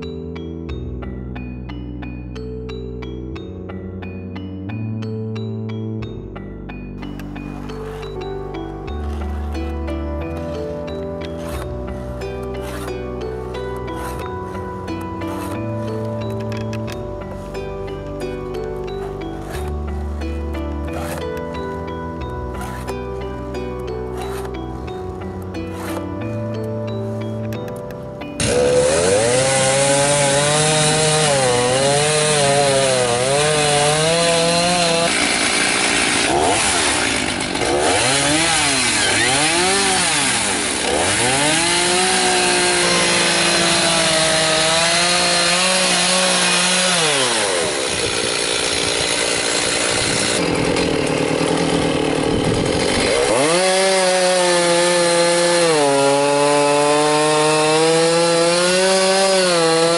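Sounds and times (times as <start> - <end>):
chainsaw revving and cutting wood: 3.4 - 59.9.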